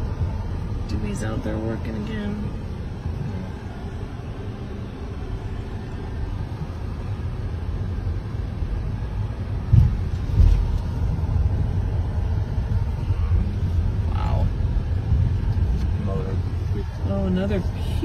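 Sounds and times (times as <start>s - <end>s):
car cabin road rumble: 0.0s - 18.0s.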